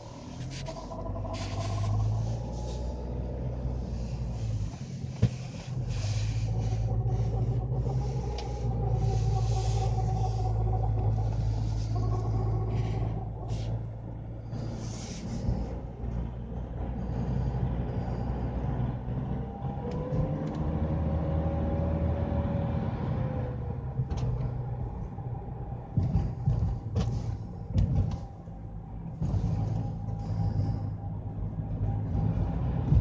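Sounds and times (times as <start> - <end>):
car engine droning: 0.0 - 33.0
gearbox whine: 0.0 - 33.0.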